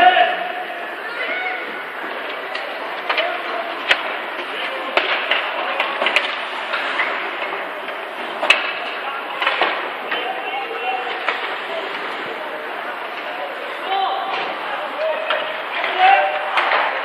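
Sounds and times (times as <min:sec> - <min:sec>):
distant shouting voices: 0:00.0 - 0:06.0, 0:08.6 - 0:17.0
hockey sticks and puck clacking: 0:01.2 - 0:17.0.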